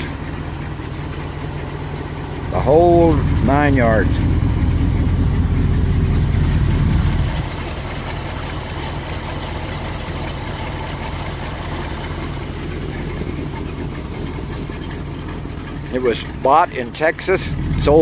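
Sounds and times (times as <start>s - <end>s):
truck engine idling rumble: 0.0s - 18.0s.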